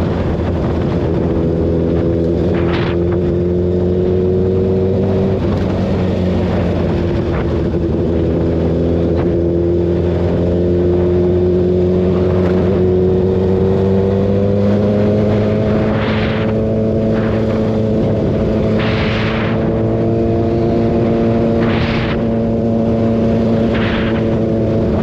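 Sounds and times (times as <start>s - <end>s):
motorbike engine accelerating: 0.0s - 25.0s.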